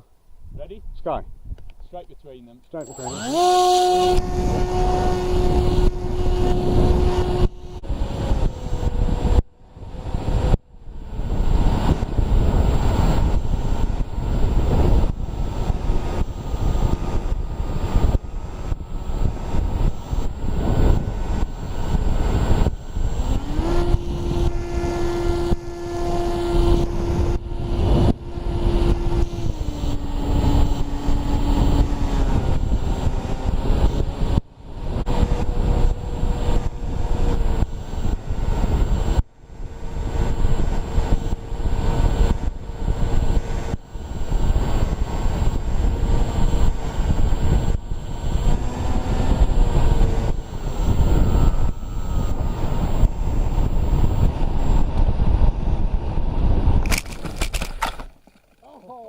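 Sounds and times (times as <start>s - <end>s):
model plane motor and propeller: 1.9s - 59.0s
rushing wind noise: 2.8s - 58.2s.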